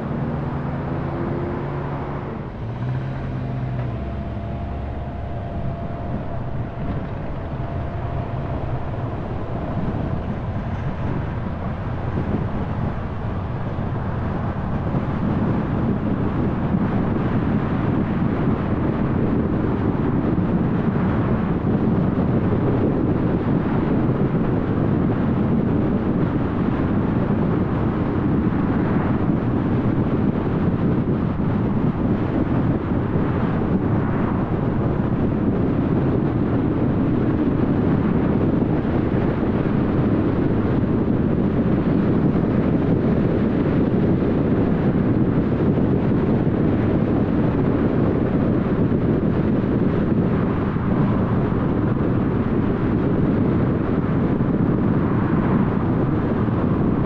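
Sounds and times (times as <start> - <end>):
car engine: 0.0 - 57.0
wind noise: 0.0 - 57.0.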